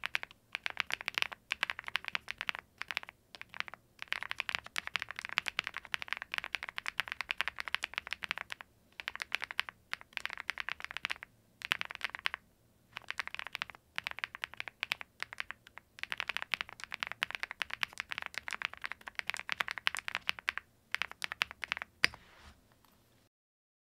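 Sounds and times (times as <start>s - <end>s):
mechanical keyboard typing: 0.0s - 12.4s, 13.0s - 21.9s.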